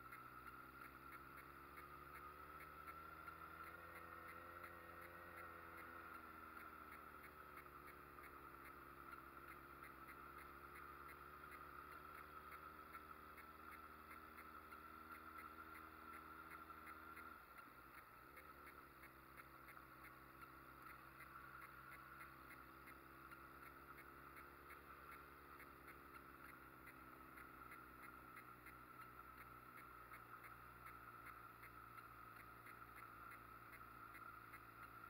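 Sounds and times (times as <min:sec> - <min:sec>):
faint motorcycle engine running: 0:00.0 - 0:35.0.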